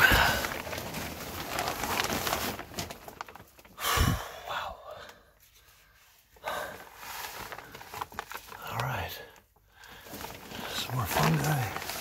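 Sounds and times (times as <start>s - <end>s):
plastic sheeting rustling and crinkling: 0.0s - 12.0s.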